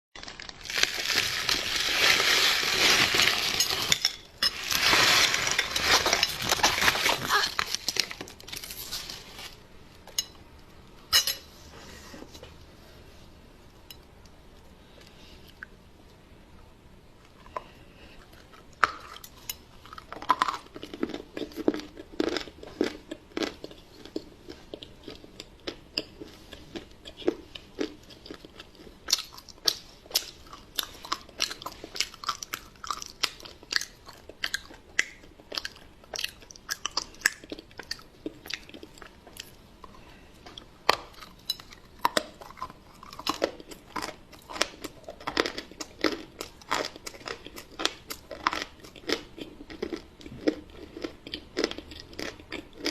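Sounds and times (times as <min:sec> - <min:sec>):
person chewing crunchy crust: 0:00.2 - 0:09.6, 0:17.4 - 0:52.9.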